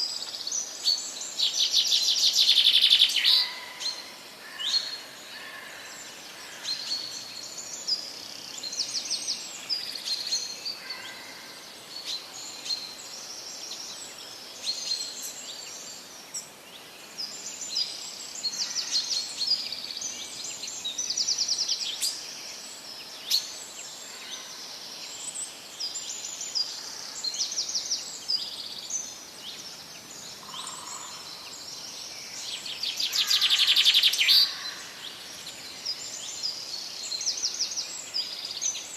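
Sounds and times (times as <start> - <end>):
birds chirping and singing: 0.0 - 38.9
faint steady hiss: 0.0 - 38.9.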